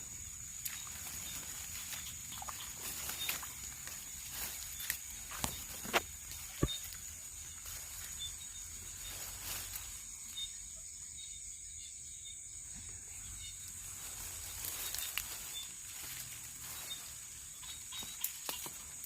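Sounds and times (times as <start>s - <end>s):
insect trilling: 0.0s - 19.0s.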